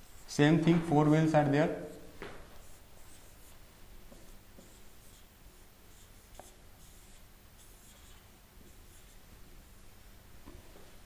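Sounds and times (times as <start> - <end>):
marker drawing on whiteboard: 0.0 - 9.2.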